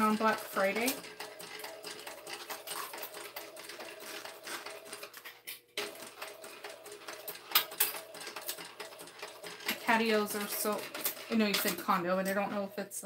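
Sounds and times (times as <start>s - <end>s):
sewing machine clicking stitches: 0.0s - 5.2s, 5.8s - 12.4s
sewing machine motor hum: 0.0s - 12.6s.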